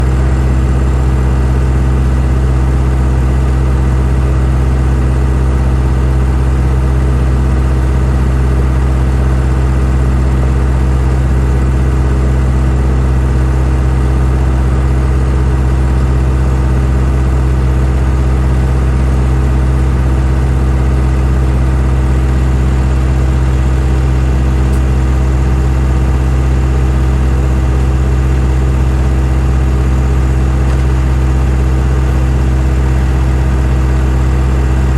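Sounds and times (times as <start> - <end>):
farm machinery engine droning: 0.0 - 34.9.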